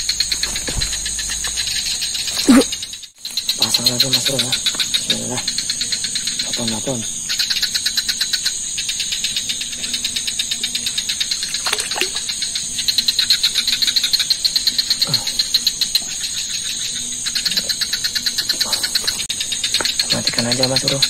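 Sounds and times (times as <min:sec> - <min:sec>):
high-pitched insect drone: 0:00.0 - 0:21.0
insects chirping in pulses: 0:00.0 - 0:21.0.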